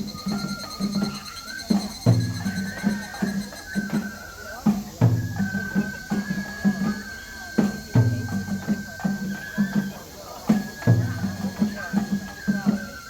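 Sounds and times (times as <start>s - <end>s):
high flute long notes: 0.0s - 13.0s
taiko drums beating: 0.0s - 13.0s.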